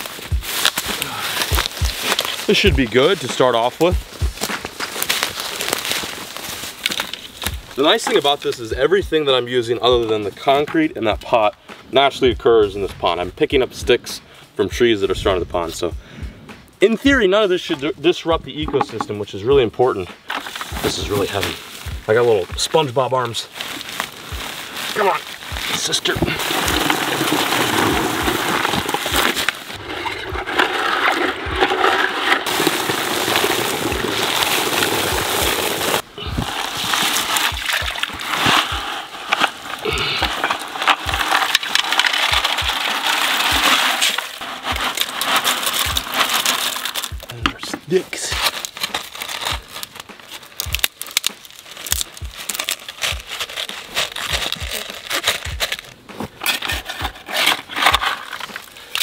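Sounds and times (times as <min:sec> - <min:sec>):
background music: 0:00.0 - 0:59.0.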